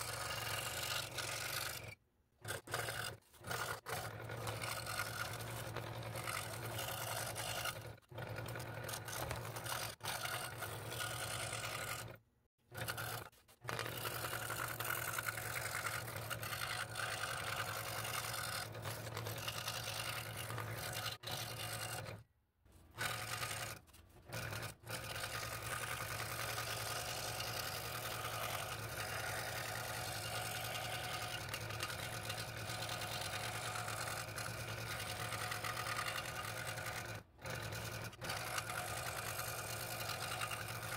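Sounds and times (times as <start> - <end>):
scroll saw cutting wood: 0.0 - 40.9.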